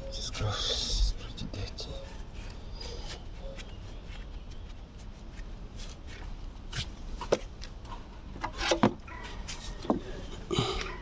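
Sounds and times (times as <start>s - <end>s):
hand rubbing and scraping parts: 1.8s - 10.9s.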